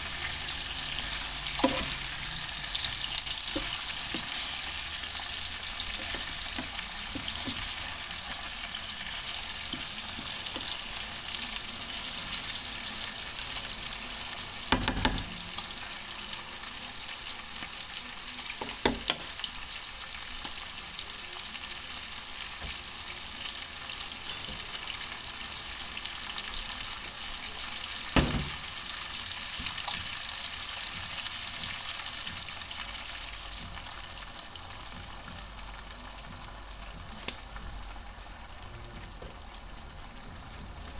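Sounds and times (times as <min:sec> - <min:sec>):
food frying in hot oil: 0:00.0 - 0:40.9.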